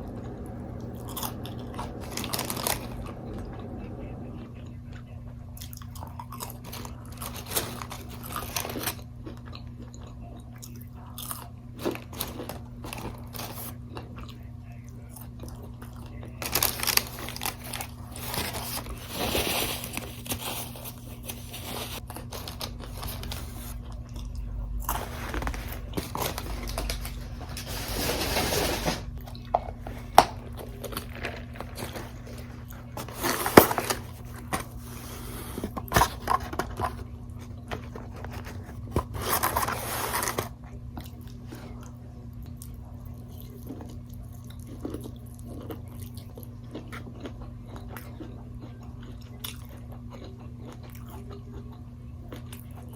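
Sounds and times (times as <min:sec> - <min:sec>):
chewing and crunching fried food: 0:00.0 - 0:03.6, 0:04.3 - 0:52.9
faint steady hum: 0:00.0 - 0:52.9.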